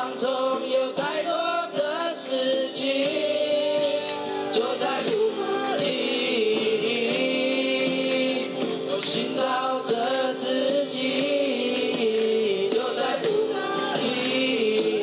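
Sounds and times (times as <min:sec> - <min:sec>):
boys singing together: 0:00.0 - 0:15.0
strummed acoustic guitar: 0:00.0 - 0:15.0.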